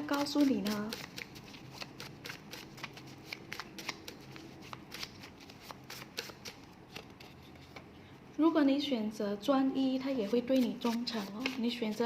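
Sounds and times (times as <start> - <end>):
cards shuffled by hand: 0.1 - 7.9, 10.1 - 12.0.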